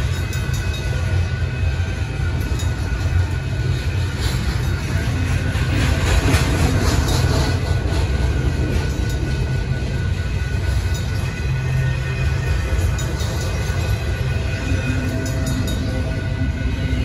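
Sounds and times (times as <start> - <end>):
freight train rumbling past: 0.0 - 17.0
wheels clattering over rail joints: 2.3 - 16.4.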